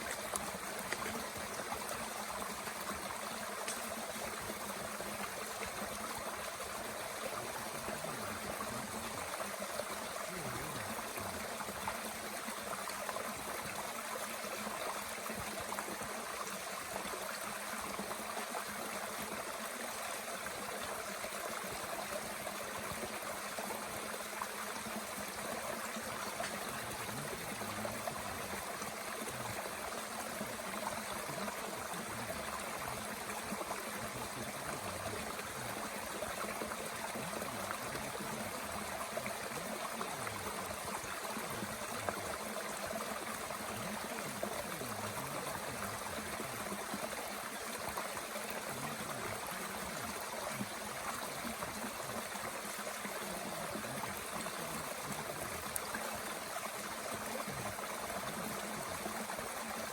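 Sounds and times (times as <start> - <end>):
mountain stream running: 0.0 - 59.9.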